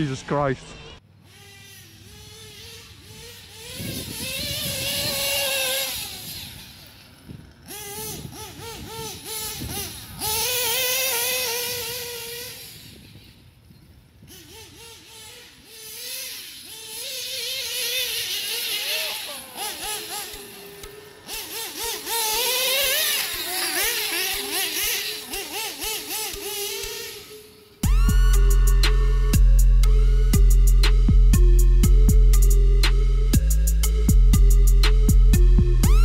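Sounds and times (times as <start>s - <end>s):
nitro engine revving high: 0.0s - 13.4s, 14.1s - 36.0s.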